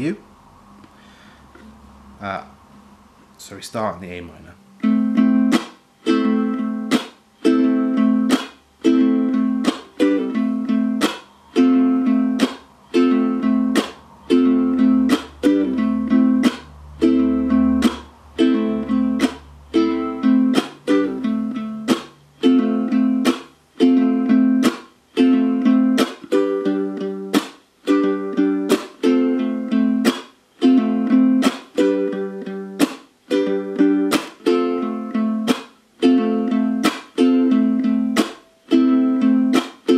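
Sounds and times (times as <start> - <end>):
ukulele strummed: 4.2 - 39.9.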